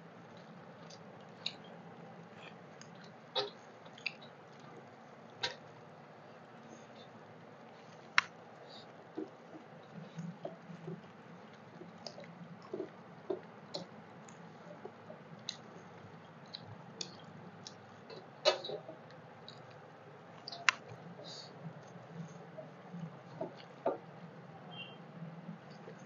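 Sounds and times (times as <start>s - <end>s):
soft chewing: 0.0s - 26.0s
fingers squishing food on plates: 0.1s - 26.0s.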